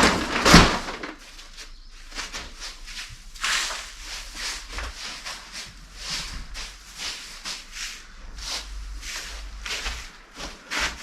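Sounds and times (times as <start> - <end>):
wood shavings rustling: 0.0 - 11.0.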